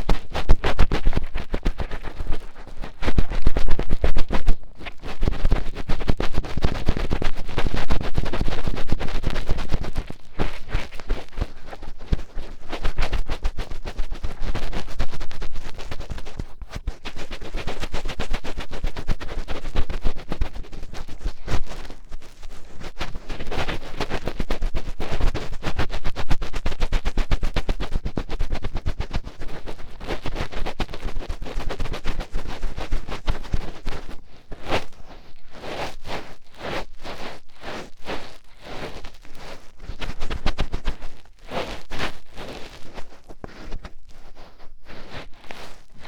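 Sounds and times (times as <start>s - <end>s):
finger scratching in an ear: 0.0s - 46.0s.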